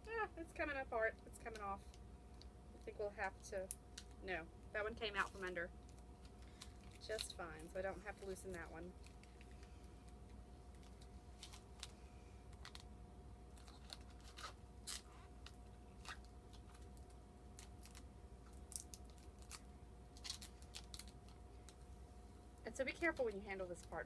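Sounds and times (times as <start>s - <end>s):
plastic film peeling crackles: 1.2s - 4.2s, 5.0s - 21.9s.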